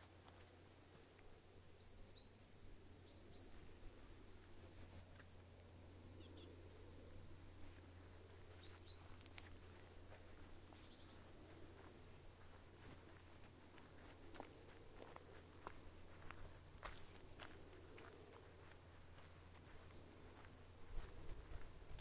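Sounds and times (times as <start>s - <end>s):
small birds chirping faintly: 0.0s - 22.0s.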